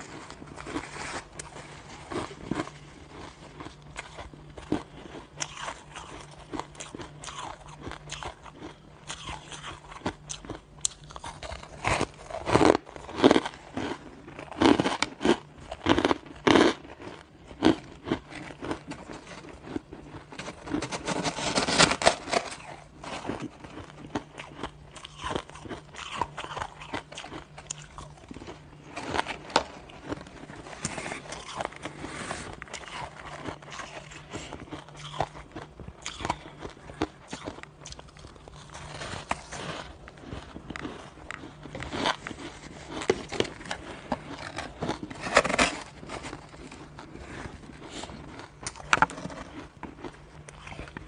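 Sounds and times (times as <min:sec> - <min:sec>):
person crunching ice: 0:00.0 - 0:51.0.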